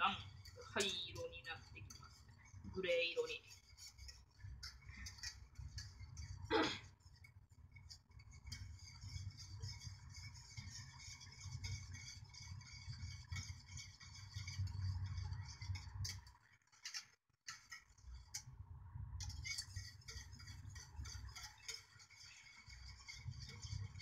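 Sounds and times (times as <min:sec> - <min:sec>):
whisk scraping metal saucepan: 0:00.0 - 0:18.5, 0:19.1 - 0:24.0.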